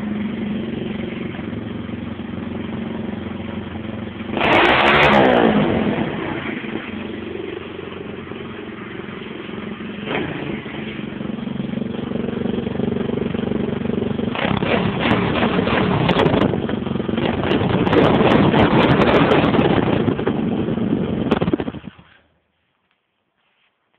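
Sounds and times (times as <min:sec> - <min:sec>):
pit bike engine revving: 0:00.0 - 0:22.1.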